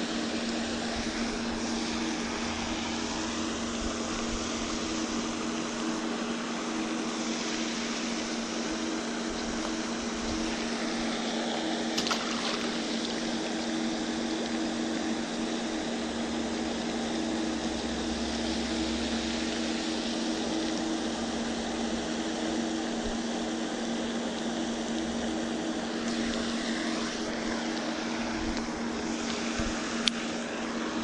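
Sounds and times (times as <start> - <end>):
constant hiss: 0.0 - 31.0
motor humming: 0.0 - 31.0.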